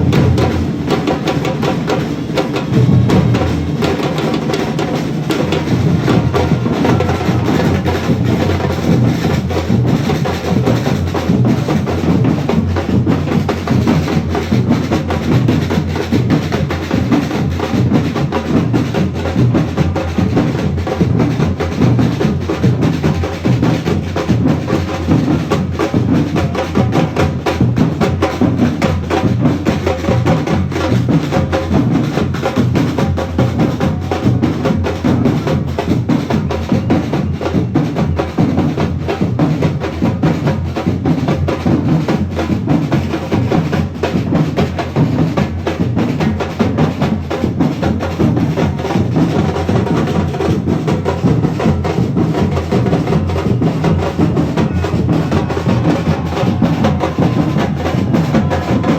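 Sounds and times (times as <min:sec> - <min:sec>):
group drumming fast rhythm: 0:00.0 - 0:58.9
deep bass drum beats: 0:02.6 - 0:36.9, 0:45.2 - 0:58.9.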